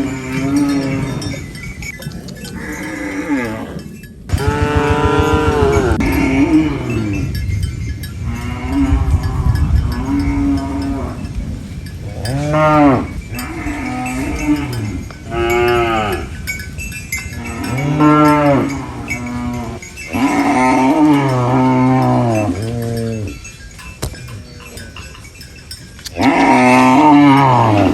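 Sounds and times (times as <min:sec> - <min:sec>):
cattle mooing: 0:00.0 - 0:07.4, 0:08.2 - 0:11.4, 0:12.0 - 0:16.4, 0:17.3 - 0:23.4, 0:26.1 - 0:27.9.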